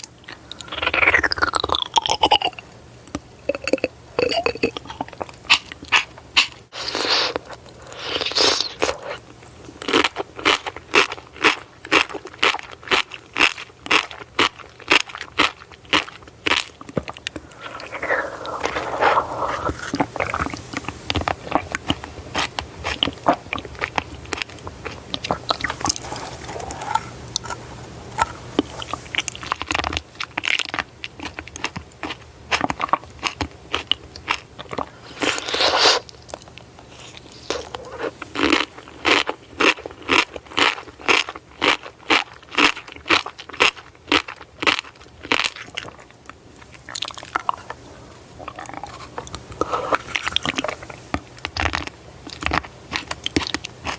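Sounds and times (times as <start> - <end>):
wet chewing: 0.0 - 27.6, 28.2 - 53.9.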